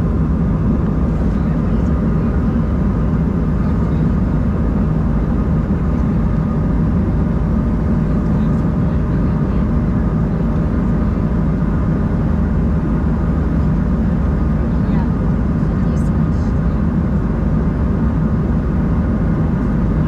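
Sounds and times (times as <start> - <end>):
airliner cabin engine rush: 0.0 - 20.0
low engine hum: 0.0 - 20.0.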